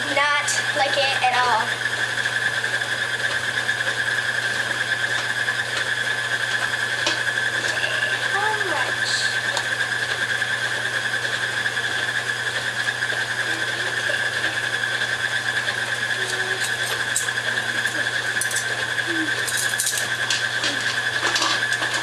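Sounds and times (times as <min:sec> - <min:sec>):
stand mixer motor whining: 0:00.0 - 0:22.0.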